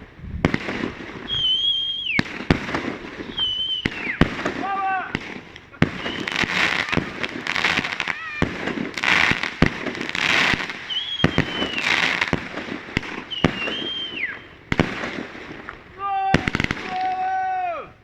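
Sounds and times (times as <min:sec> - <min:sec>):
fireworks bangs: 0:00.0 - 0:18.0
fireworks crackling: 0:00.0 - 0:18.0
whistling fireworks screeching: 0:00.0 - 0:18.0.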